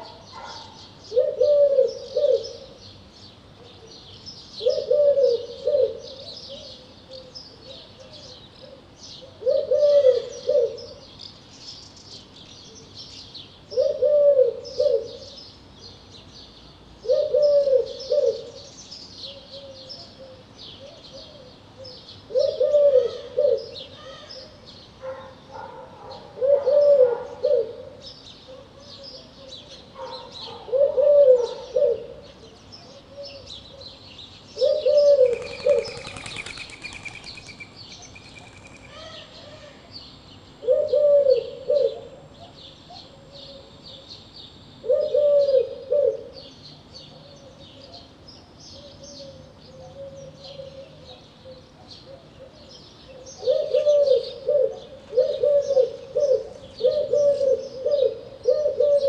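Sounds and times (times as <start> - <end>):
dove cooing: 0.0 - 2.8, 4.6 - 11.1, 13.7 - 15.4, 17.0 - 34.0, 34.6 - 39.9, 40.6 - 44.1, 44.8 - 46.5, 48.8 - 59.0
small birds chirping: 0.0 - 13.9, 14.6 - 30.8, 31.4 - 45.0, 46.3 - 59.0.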